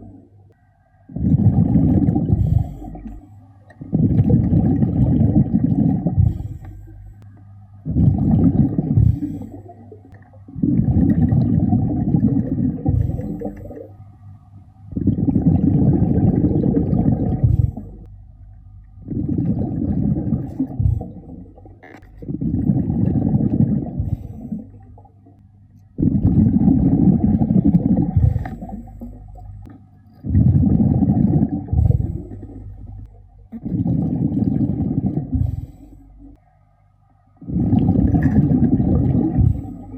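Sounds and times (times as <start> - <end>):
underwater breathing bubbles: 1.1 - 7.2, 7.8 - 14.0, 14.9 - 18.1, 19.0 - 25.4, 26.0 - 36.4, 37.4 - 39.9.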